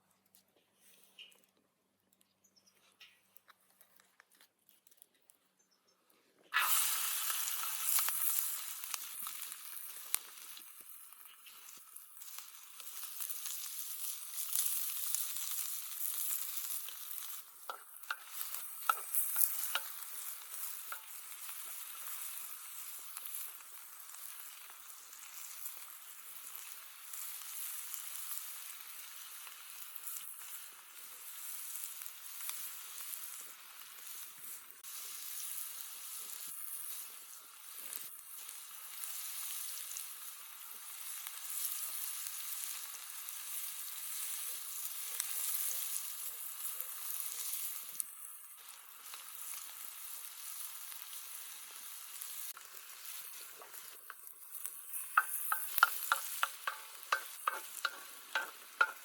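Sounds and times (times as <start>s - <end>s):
food frying in oil: 6.5s - 59.0s.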